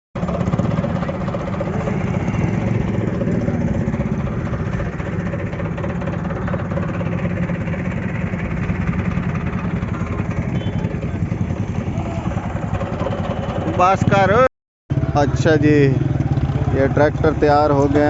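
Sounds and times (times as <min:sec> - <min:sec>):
tractor diesel engine idling: 0:00.2 - 0:14.4, 0:15.0 - 0:18.0.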